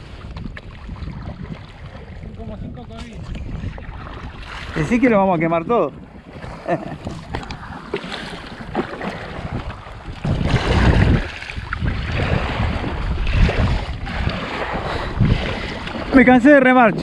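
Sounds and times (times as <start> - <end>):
water lapping around kayak: 0.0 - 17.0
wind buffeting microphone: 0.0 - 17.0.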